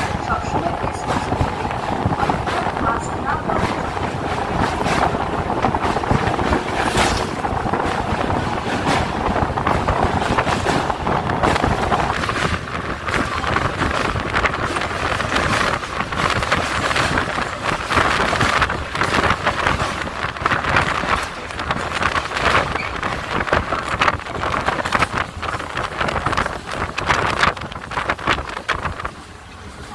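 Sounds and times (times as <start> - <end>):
train wheels rumbling: 0.0 - 29.9
wheels clattering over rails: 0.0 - 29.9
wind buffeting microphone: 0.0 - 29.9.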